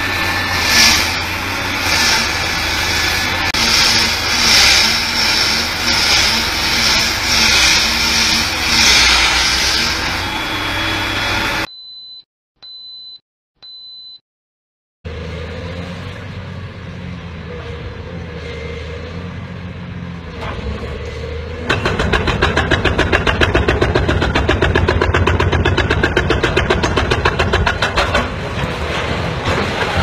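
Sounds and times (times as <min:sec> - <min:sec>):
diesel engine running: 0:00.0 - 0:11.7, 0:15.0 - 0:30.0.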